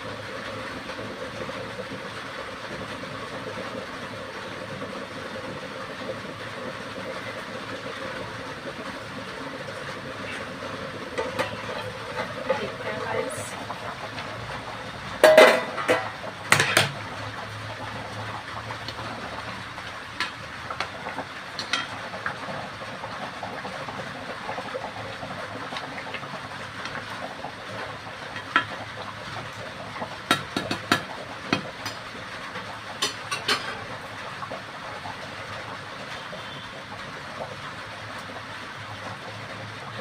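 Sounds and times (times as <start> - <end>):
pot of curry hissing: 0.0 - 40.0.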